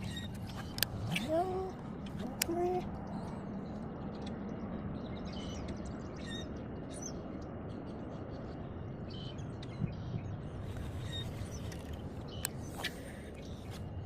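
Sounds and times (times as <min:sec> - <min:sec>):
birds chirping: 0:00.0 - 0:14.0
steady low background noise: 0:00.0 - 0:14.0.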